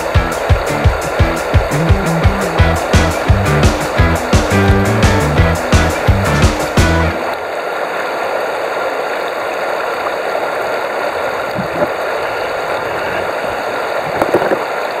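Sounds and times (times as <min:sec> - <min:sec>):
underwater stream rushing: 0:00.0 - 0:15.0.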